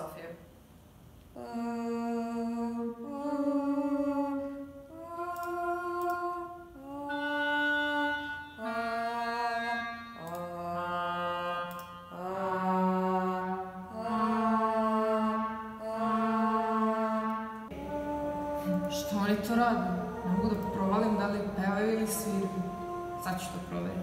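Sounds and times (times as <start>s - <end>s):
sampled instrument holding long notes: 1.4s - 24.0s.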